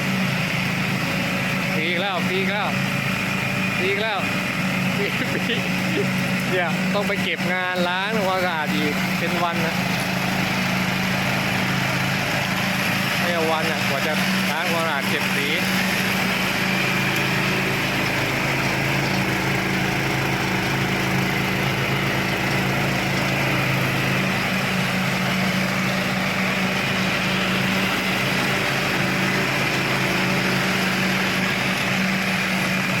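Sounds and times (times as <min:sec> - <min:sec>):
ride-on lawn mower engine running: 0:00.0 - 0:33.0.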